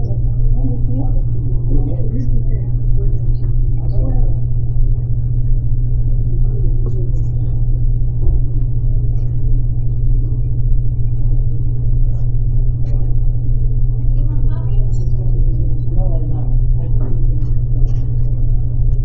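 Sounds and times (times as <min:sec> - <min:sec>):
loud low rumble with hum: 0:00.0 - 0:19.0.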